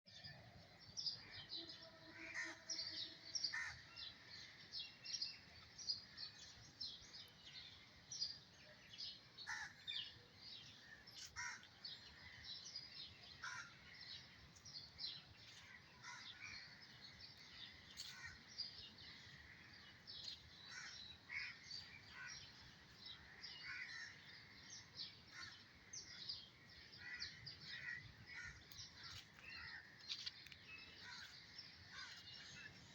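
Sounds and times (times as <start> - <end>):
birds calling and chirping: 0.1 - 32.9.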